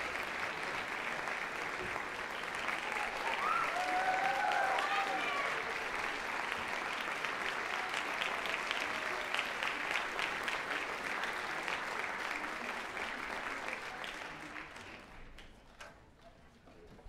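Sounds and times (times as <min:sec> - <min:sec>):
audience applauding: 0:00.0 - 0:15.6.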